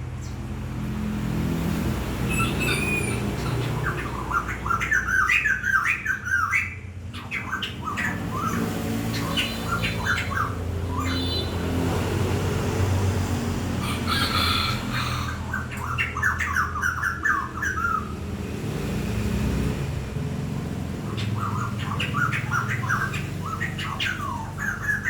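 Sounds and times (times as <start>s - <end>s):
birds squawking chirps: 0.0s - 25.0s.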